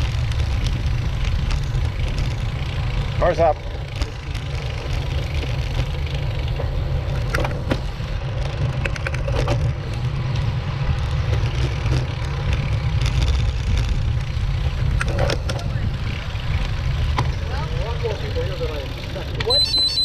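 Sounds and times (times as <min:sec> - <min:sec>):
motorcycle engine rumble: 0:00.0 - 0:20.0.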